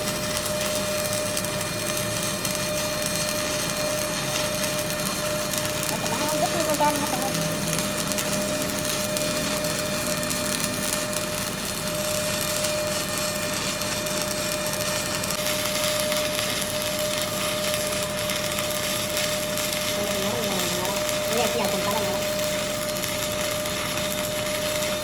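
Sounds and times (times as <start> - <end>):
high machine whine: 0.0 - 25.0.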